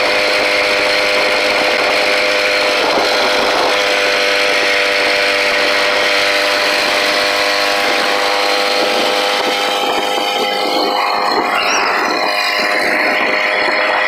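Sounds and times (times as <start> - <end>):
small engine buzzing: 0.0 - 14.0
wind over microphone: 0.0 - 14.0.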